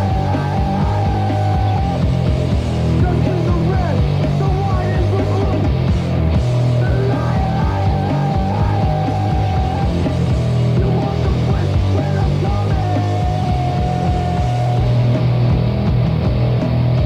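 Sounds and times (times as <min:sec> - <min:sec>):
punk rock song: 0:00.0 - 0:17.0.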